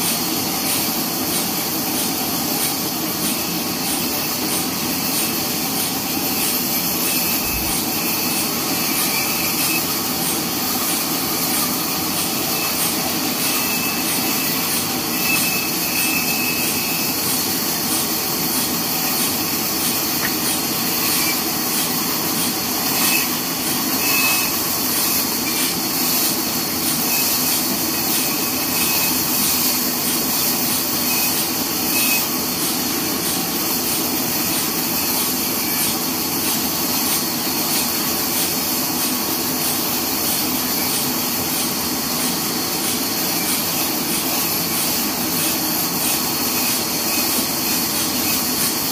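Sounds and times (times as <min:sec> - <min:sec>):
band saw cutting log: 0:00.0 - 0:48.9.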